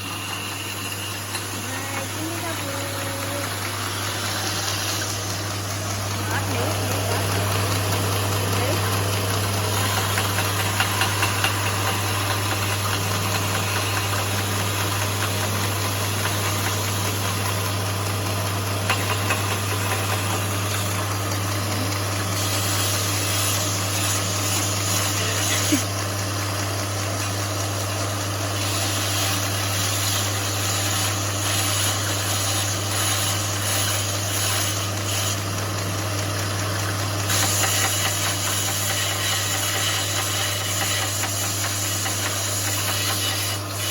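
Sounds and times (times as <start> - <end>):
belt grinder running: 0.0 - 43.9.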